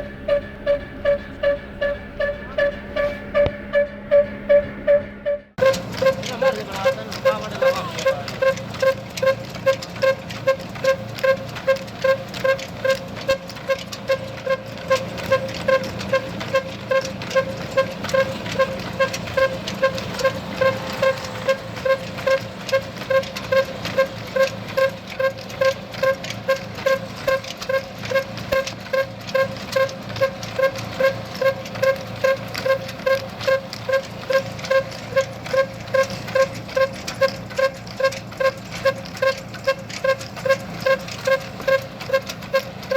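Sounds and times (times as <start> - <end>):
stationary engine running slowly: 0.0 - 42.9.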